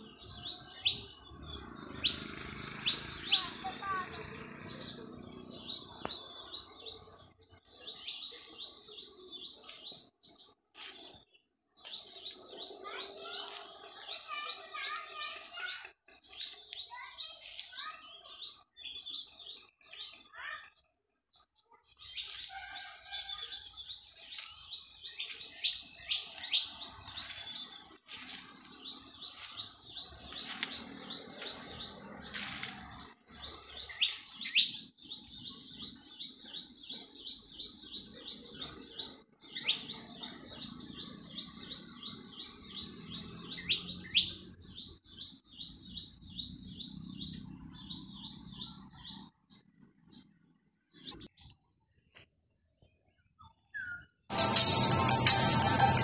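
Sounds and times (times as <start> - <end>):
bird chirping: 0.0 - 54.3.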